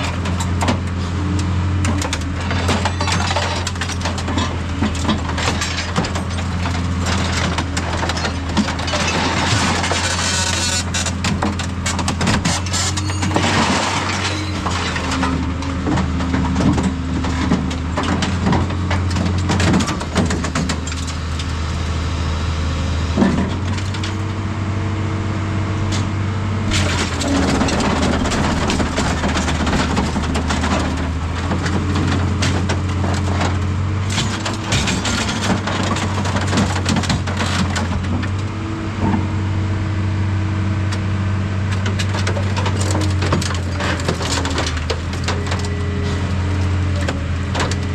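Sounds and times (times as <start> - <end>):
scrap metal crunching: 0.0 - 22.0, 25.6 - 39.7, 40.8 - 47.9
heavy machinery engine hum: 0.0 - 47.9.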